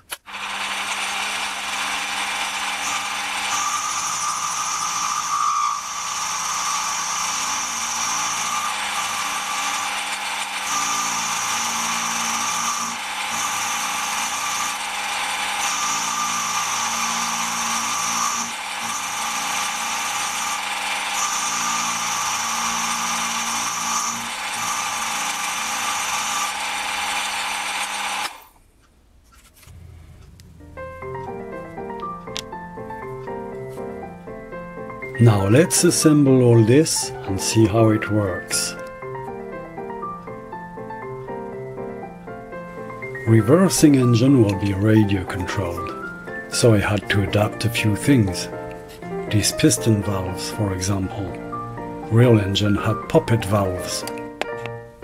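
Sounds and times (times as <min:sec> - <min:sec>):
milling machine cutting metal: 0:00.0 - 0:28.5, 0:35.1 - 0:39.1, 0:43.0 - 0:54.7.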